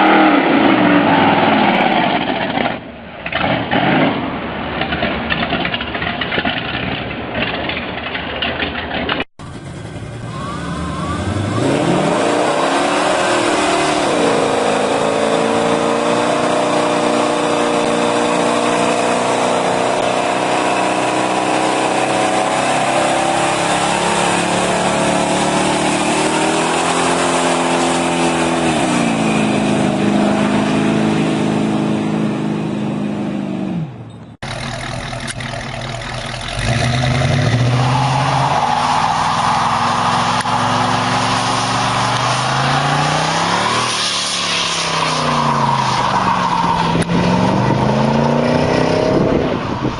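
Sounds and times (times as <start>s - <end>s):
muscle car engine revving: 9.4s - 49.8s.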